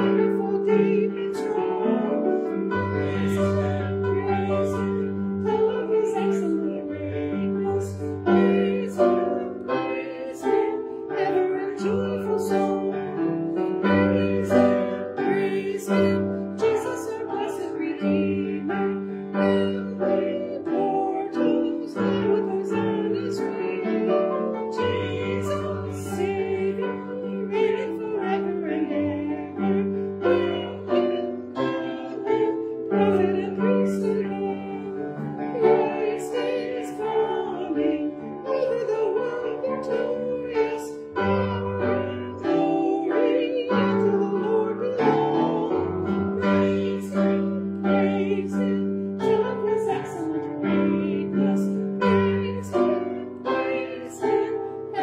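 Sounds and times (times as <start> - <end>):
hymn singing: 0.0 - 55.0
piano chords: 0.0 - 55.0.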